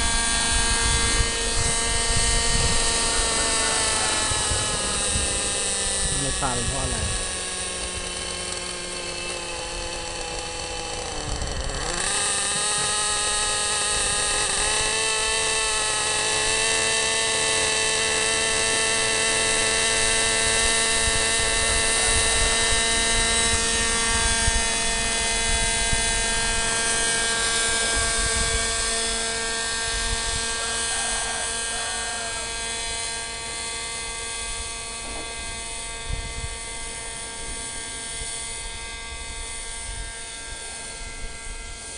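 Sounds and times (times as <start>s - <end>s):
model helicopter motor whine: 0.0s - 41.9s.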